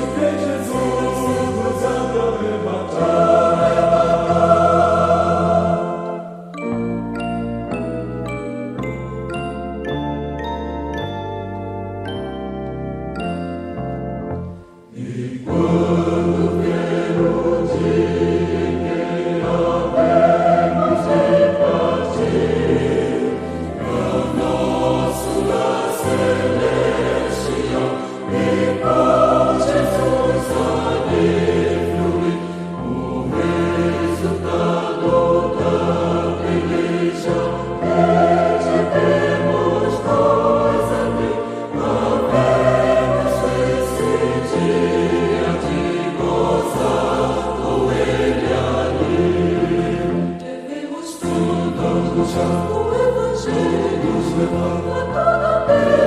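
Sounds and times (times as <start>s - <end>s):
choir singing a gospel hymn: 0.0s - 7.3s, 14.8s - 56.0s.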